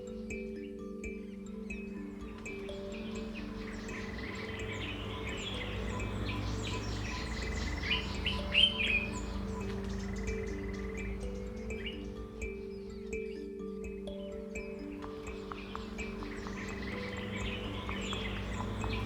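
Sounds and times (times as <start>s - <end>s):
birds chirping and trilling: 0.0s - 19.0s
soft music of low notes: 0.0s - 19.0s.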